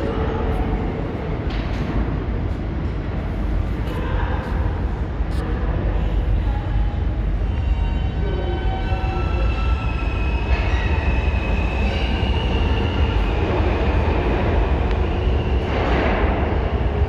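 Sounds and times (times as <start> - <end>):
high whining train tones: 0.0 - 17.0.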